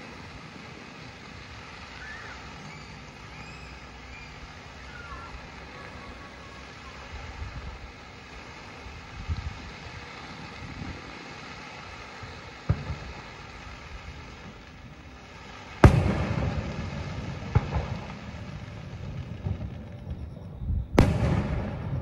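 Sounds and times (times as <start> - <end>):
firework shells bursting: 0.0 - 22.0.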